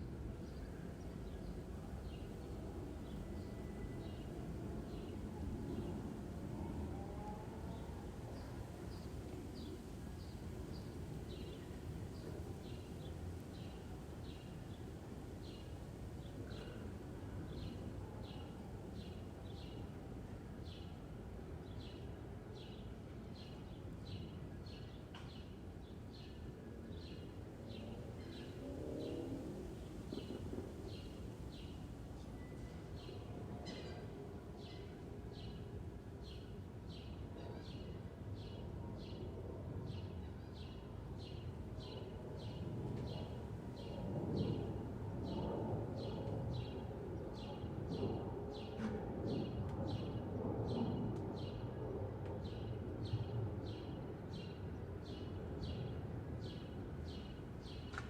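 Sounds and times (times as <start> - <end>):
low outdoor background hum: 0.0 - 58.0.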